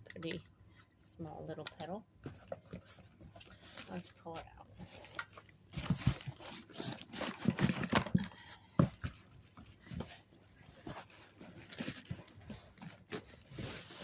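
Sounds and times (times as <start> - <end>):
cardboard and packing rustling: 2.2 - 14.0.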